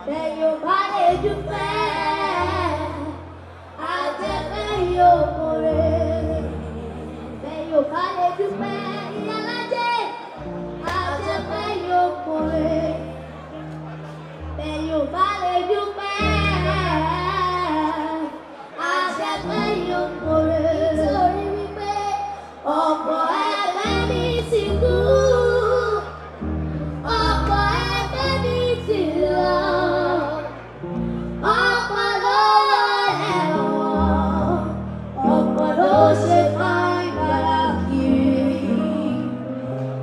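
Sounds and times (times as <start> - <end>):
girls singing a duet: 0.0 - 13.3, 14.5 - 40.0.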